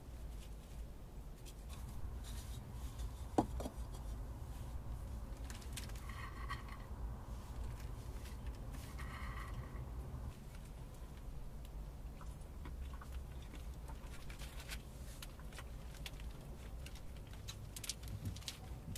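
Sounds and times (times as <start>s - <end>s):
low steady rumble: 0.0s - 18.9s.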